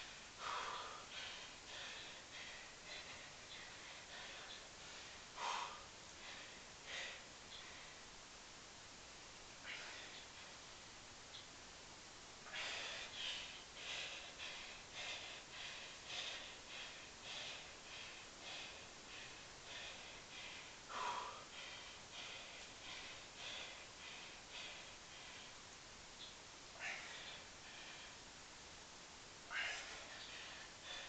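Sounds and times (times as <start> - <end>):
man breathing hard: 0.0 - 8.2, 9.6 - 10.7, 12.4 - 25.7, 26.7 - 28.3, 29.4 - 31.0.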